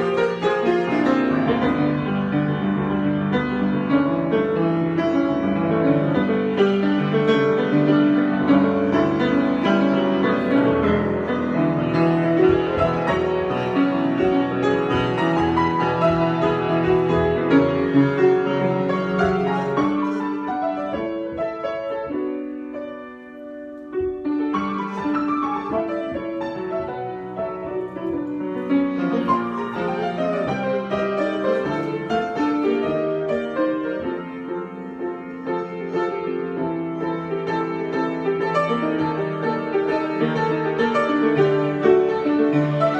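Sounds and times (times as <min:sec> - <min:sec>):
solo piano improvisation: 0:00.0 - 0:42.9.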